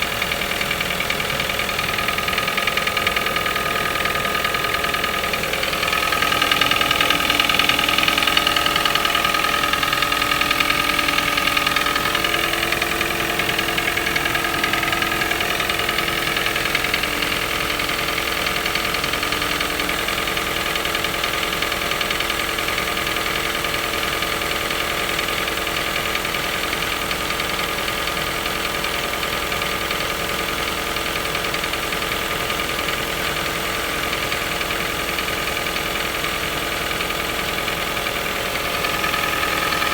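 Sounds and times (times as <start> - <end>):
engine idling with knock: 0.0 - 39.9.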